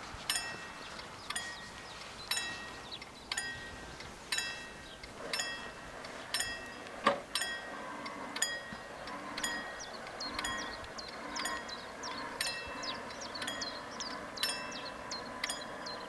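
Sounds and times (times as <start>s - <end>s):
level crossing warning bell: 0.2s - 16.0s.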